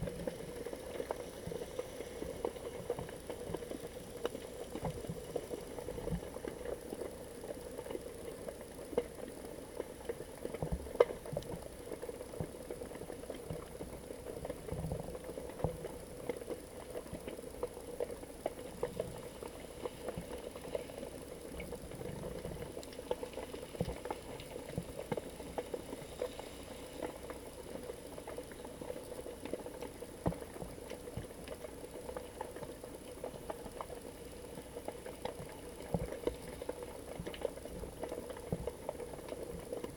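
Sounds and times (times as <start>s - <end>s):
steady hum: 0.0s - 39.9s
underwater crackle of clicks and pops: 0.0s - 39.9s.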